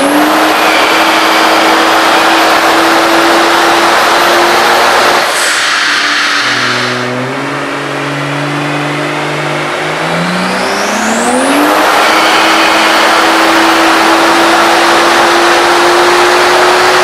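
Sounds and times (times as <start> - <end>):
high turbo whistle: 0.0 - 8.8, 9.6 - 17.0
car engine revving on dyno: 0.0 - 17.0.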